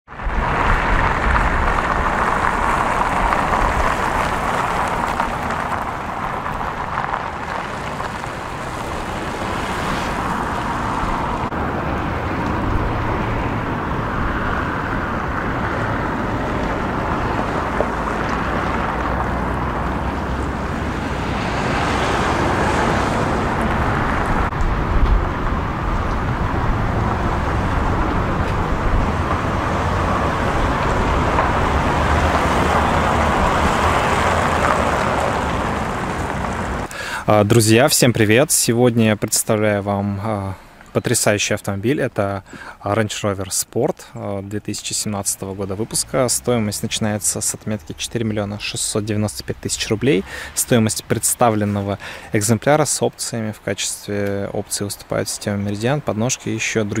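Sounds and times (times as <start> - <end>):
car road and wind noise: 0.1 - 57.0.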